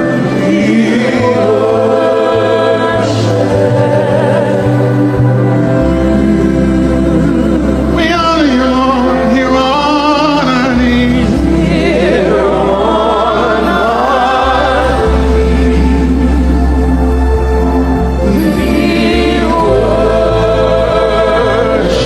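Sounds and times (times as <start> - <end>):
slow gospel worship music: 0.0 - 22.0.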